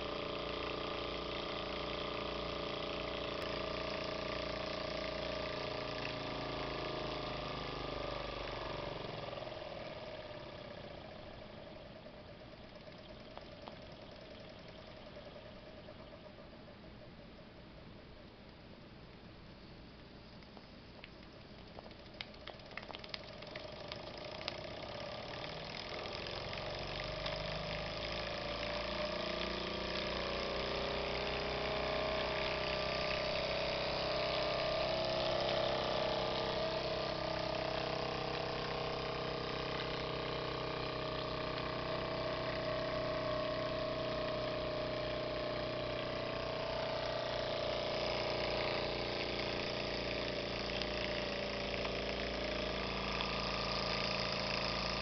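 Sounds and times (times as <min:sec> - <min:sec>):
toy steam engine running: 0:00.0 - 0:16.5, 0:22.0 - 0:55.0.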